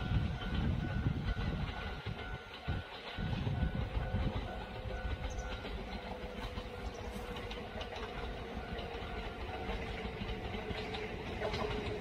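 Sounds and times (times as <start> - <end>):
train rumbling: 0.0 - 12.0
wheels ticking: 0.0 - 12.0.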